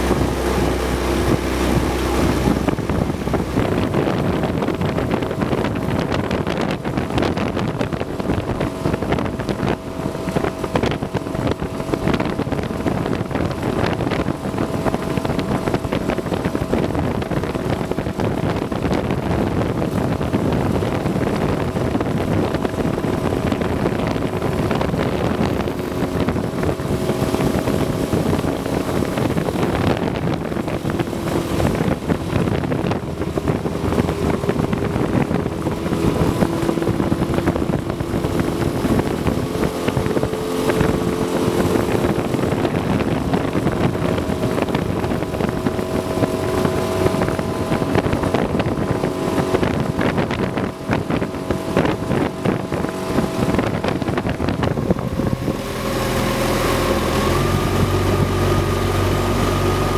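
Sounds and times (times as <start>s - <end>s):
boat motor running: 0.0s - 59.9s
wind on microphone: 0.0s - 59.9s.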